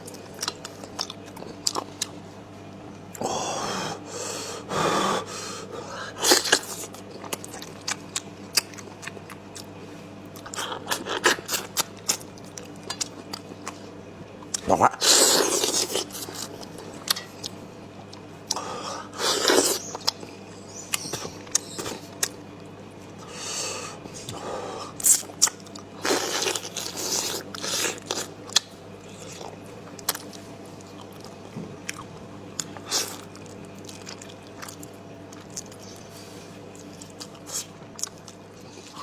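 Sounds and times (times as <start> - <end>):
biting and chewing chicken: 6.1 - 23.4, 24.0 - 39.0.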